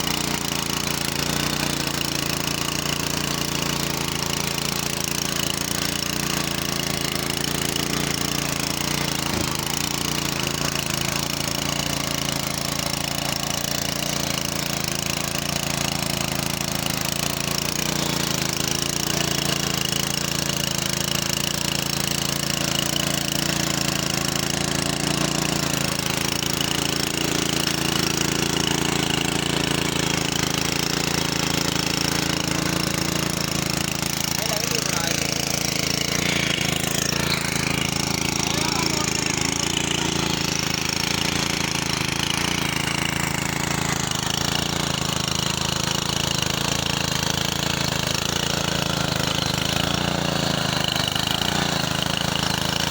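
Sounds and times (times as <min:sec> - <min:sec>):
power weeder engine running: 0:00.0 - 0:52.9.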